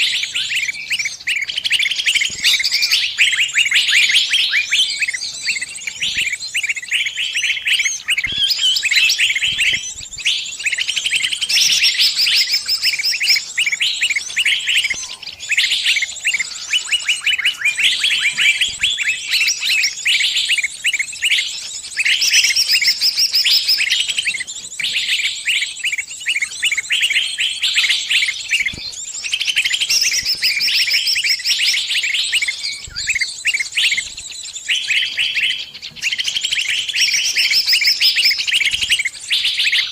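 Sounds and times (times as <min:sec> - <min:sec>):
small bird distress chirps: 0:00.0 - 0:39.9.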